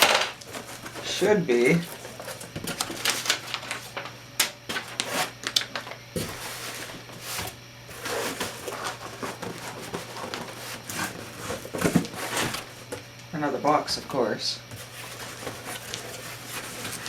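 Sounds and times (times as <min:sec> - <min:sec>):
cardboard box being opened: 0:00.4 - 0:04.0, 0:04.7 - 0:13.0, 0:14.7 - 0:17.0.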